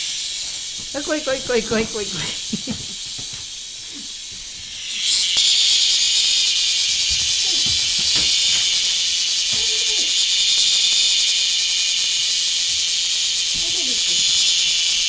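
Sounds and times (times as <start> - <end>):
cicada buzzing: 0.0 - 15.0
faint cicada drone: 0.0 - 15.0.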